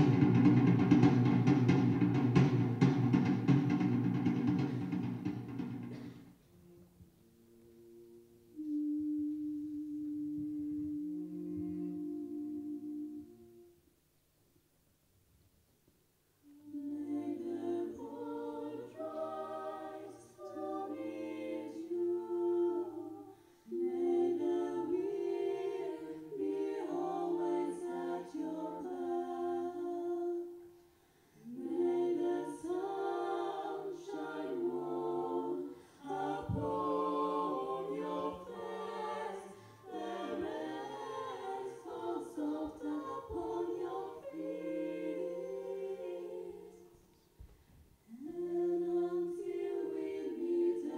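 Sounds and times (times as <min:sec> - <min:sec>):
female ensemble singing a cappella: 0:07.1 - 0:13.8, 0:16.4 - 0:50.9.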